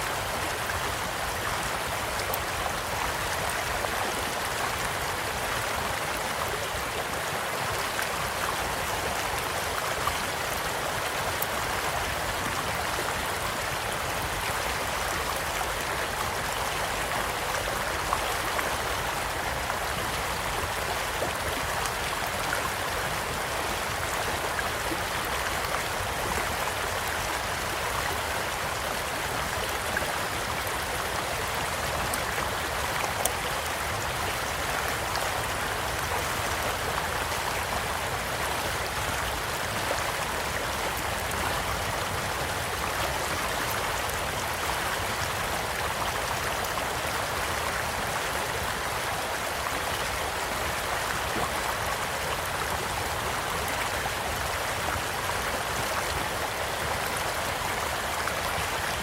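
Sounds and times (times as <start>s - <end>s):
small stream flowing: 0.0s - 59.0s.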